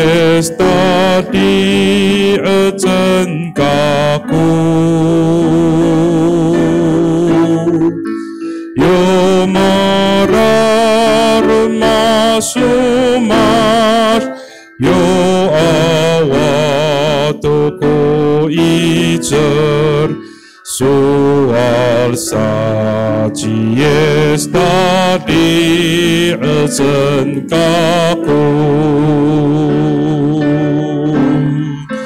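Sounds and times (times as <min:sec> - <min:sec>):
man singing a hymn: 0:00.0 - 0:32.0.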